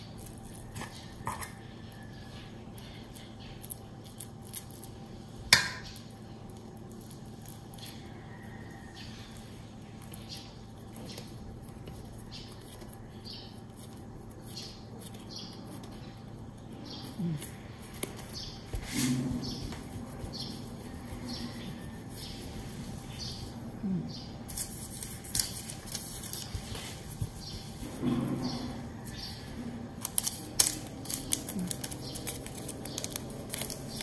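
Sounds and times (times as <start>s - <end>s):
dough rustling on a mat: 0.0s - 23.6s, 24.4s - 34.0s
steady low hum: 0.0s - 34.0s.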